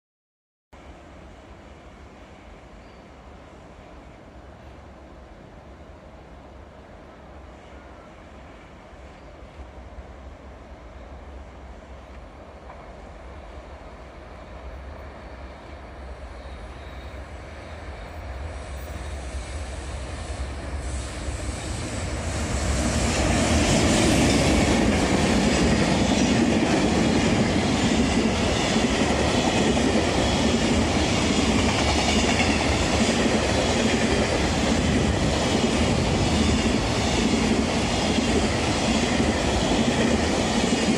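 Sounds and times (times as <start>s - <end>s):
freight train rumbling: 0.8s - 40.9s.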